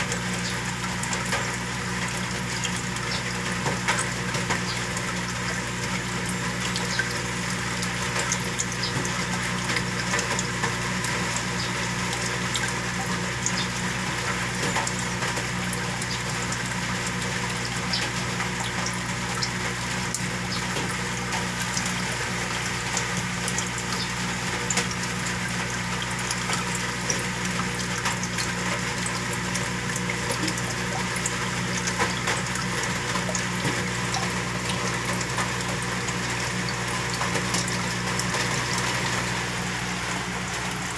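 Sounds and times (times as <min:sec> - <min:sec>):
aquarium water pump humming: 0:00.0 - 0:40.9
water flowing and bubbling: 0:00.0 - 0:40.9.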